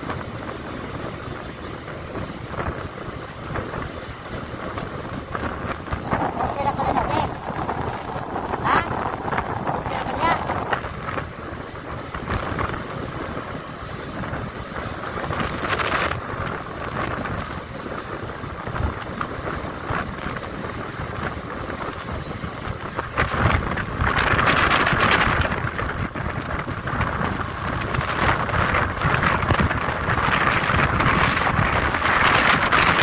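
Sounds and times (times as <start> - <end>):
motorcycle running: 0.0 - 33.0
wind rushing over microphone: 0.0 - 33.0.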